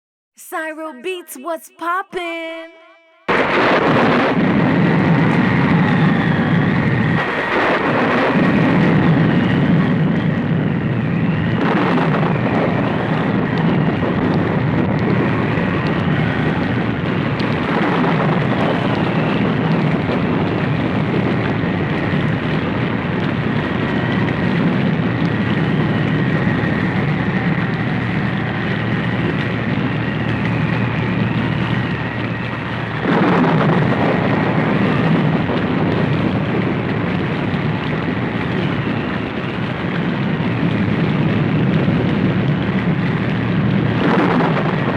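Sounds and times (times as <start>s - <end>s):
roar of wind and storm: 3.6s - 44.9s.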